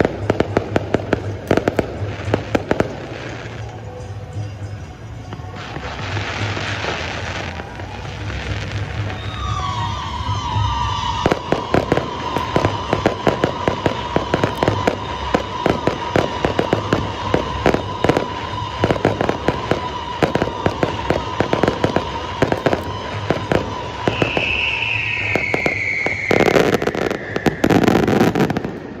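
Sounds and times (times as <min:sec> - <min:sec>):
fireworks bangs and crackles: 0:00.0 - 0:29.0
steady high whistle: 0:00.0 - 0:29.0
falling whistle: 0:02.2 - 0:29.0.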